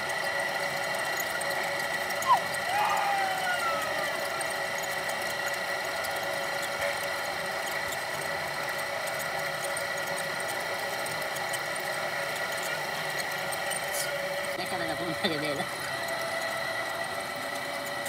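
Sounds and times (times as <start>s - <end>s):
potter's wheel motor whining: 0.0s - 18.0s.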